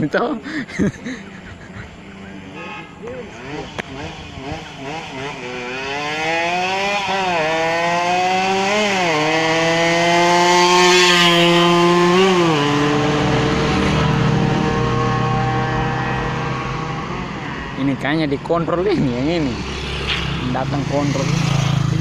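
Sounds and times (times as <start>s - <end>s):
motorcycle accelerating: 0.8s - 22.0s.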